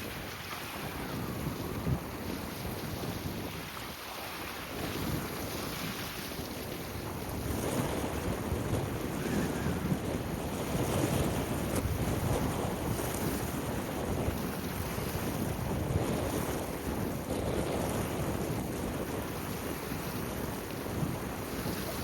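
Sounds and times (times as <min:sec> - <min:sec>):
waves on water: 0:00.0 - 0:22.0
wind blowing on microphone: 0:00.0 - 0:22.0.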